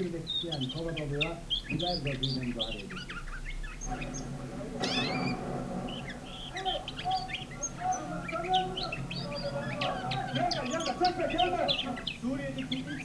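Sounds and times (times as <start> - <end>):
nightingale singing: 0.0 - 13.0.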